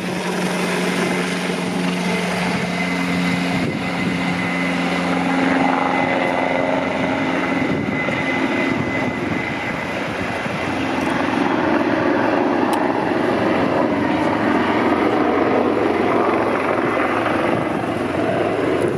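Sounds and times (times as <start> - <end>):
helicopter rotor noise: 0.0 - 18.9
high turbine whine: 0.0 - 18.9.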